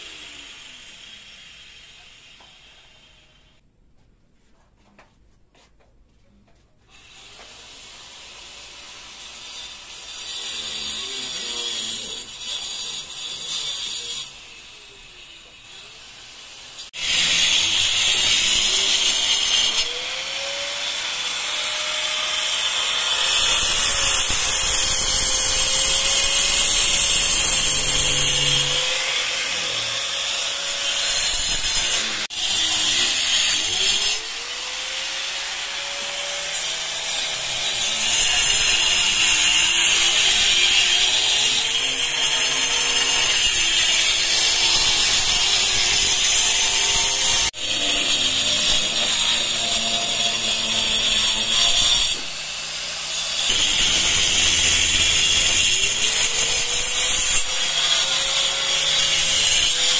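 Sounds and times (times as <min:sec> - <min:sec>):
angle grinder cutting masonry: 0:00.0 - 0:03.4, 0:06.9 - 0:59.9.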